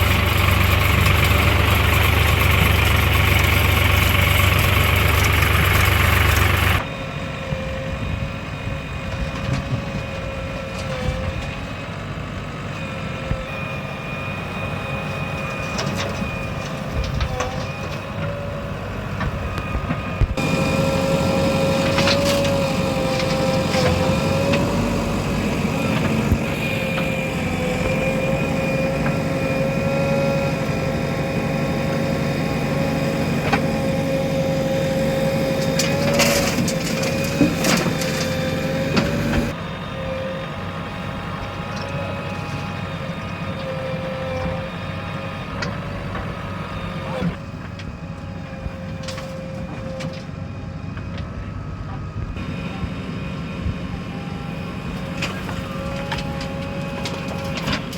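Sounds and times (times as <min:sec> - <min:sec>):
diesel construction machinery running: 0:00.0 - 0:57.9.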